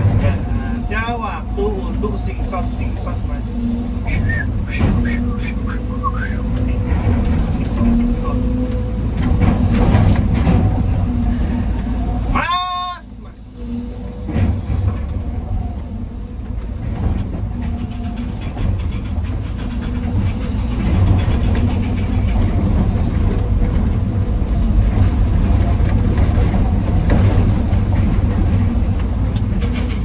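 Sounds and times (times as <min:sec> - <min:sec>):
diesel machinery rumbling: 0:00.0 - 0:30.0.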